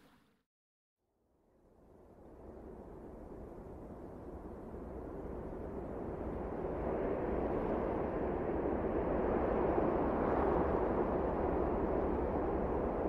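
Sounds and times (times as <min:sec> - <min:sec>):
wind: 0:01.0 - 0:13.0.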